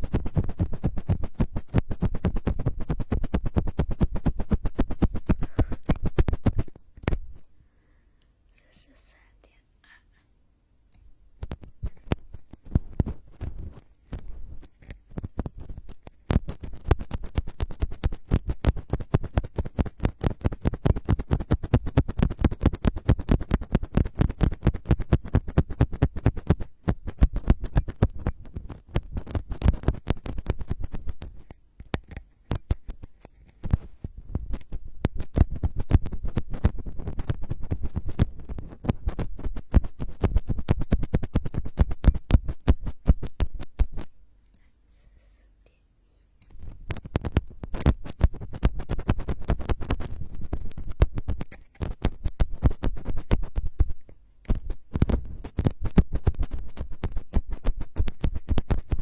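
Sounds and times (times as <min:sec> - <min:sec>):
crackling scratches on microphone: 0:00.0 - 0:07.6, 0:11.4 - 0:44.2, 0:46.4 - 0:59.0.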